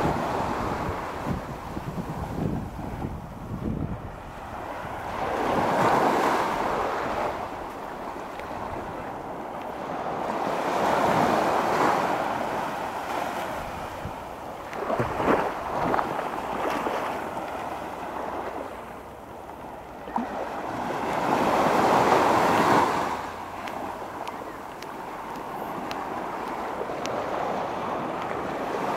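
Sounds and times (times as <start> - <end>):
small waves breaking on sand: 0.0 - 28.9.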